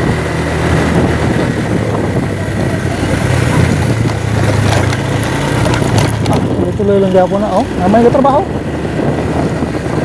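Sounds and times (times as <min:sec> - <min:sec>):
road and wind noise: 0:00.0 - 0:10.0
vehicle engine running: 0:00.0 - 0:10.0.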